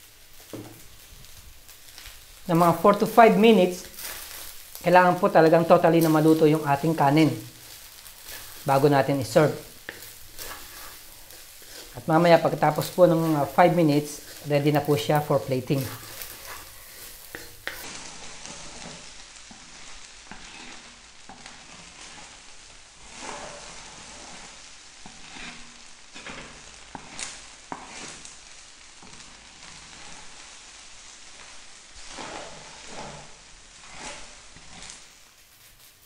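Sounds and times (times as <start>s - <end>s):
rice sizzling in a wok: 0.0s - 36.0s
wooden spatula scraping a wok: 0.0s - 36.0s.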